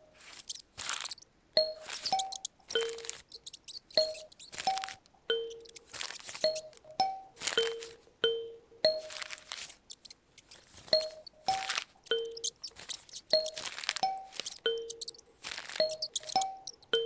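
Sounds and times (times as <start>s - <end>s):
paper rustling: 0.1s - 1.2s, 1.8s - 8.1s, 9.0s - 16.9s.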